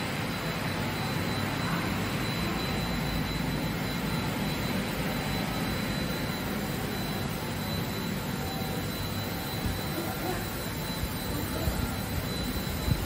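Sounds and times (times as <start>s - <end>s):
high whine: 0.0s - 13.0s.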